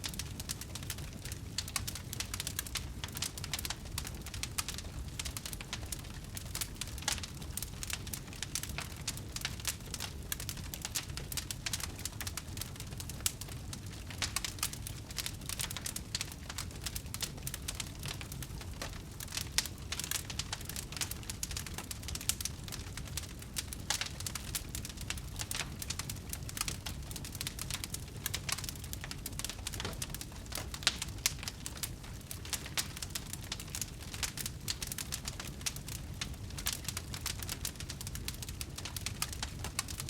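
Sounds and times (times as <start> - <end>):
low rumble of flames: 0.0 - 40.0
wood fire crackling and popping: 0.0 - 40.0.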